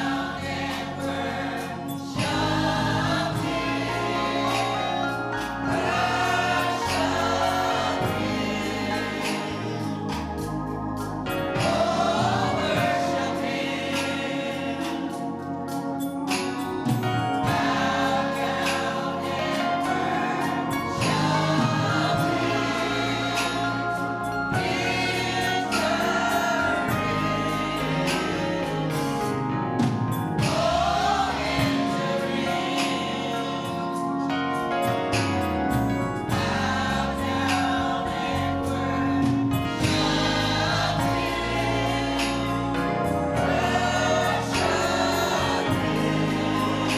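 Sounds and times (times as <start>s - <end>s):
gospel choir singing: 0.0s - 46.9s
musical accompaniment: 0.0s - 46.9s.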